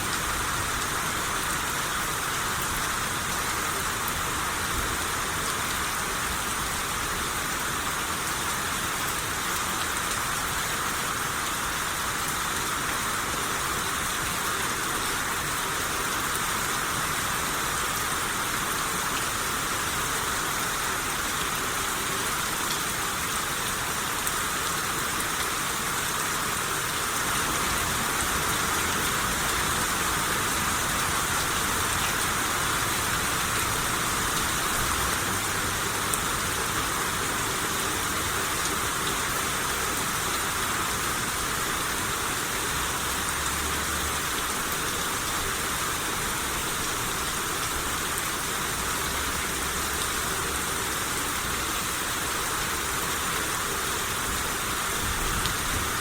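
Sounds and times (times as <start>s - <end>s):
rain hissing on surfaces: 0.0s - 56.0s.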